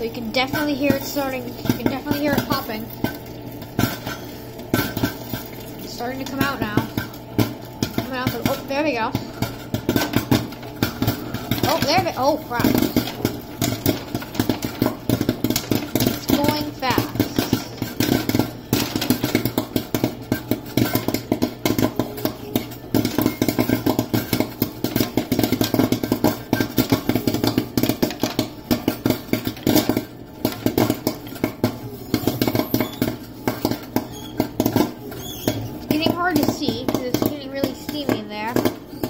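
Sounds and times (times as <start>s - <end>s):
machine humming: 0.0s - 39.0s
popcorn popping: 0.0s - 39.0s.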